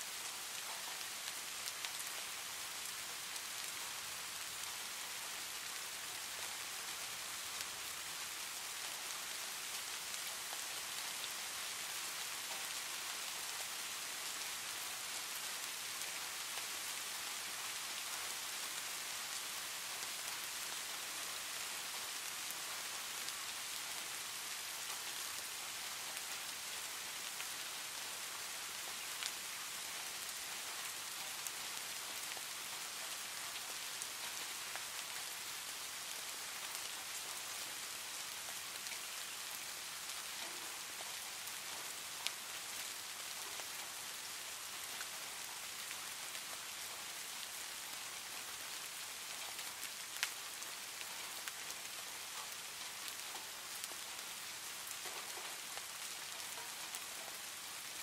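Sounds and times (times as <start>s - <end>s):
falling rain hiss: 0.0s - 58.0s.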